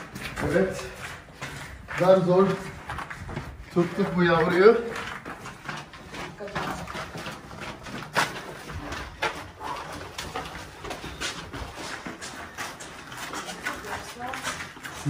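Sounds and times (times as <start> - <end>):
footsteps on concrete stairs: 0.0 - 15.0.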